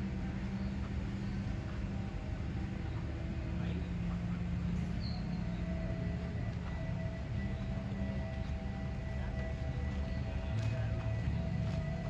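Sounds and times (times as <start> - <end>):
ambient music: 0.0 - 12.0
crowd murmuring: 0.8 - 12.0.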